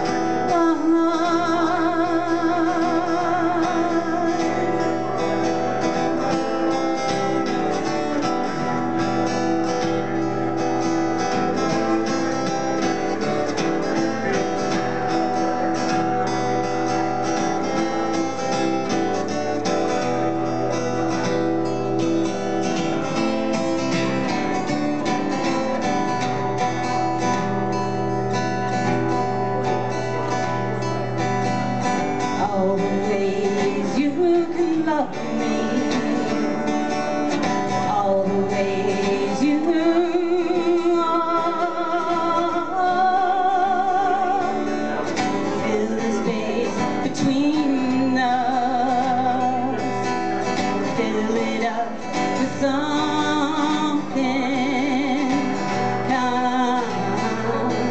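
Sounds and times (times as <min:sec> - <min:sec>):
acoustic guitar strumming: 0:00.0 - 0:57.9.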